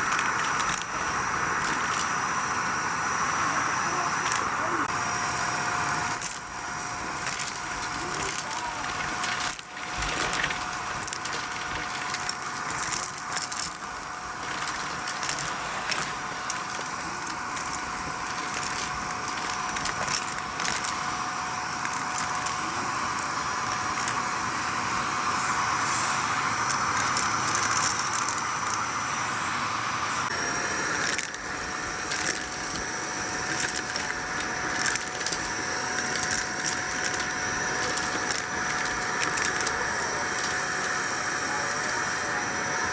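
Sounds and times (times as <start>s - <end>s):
debris rattling in vacuum: 0.0s - 42.9s
vacuum cleaner running: 0.0s - 42.9s.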